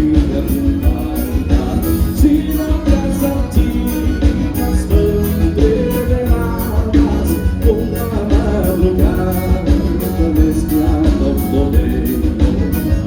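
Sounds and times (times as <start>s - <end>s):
accordion dance band playing: 0.0s - 13.0s.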